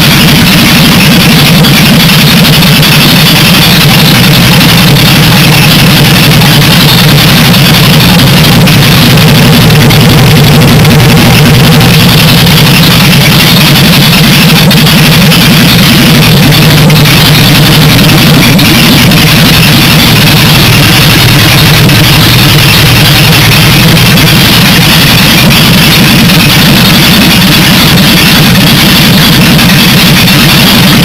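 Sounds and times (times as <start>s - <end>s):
loud car engine idling: 0.0s - 31.0s.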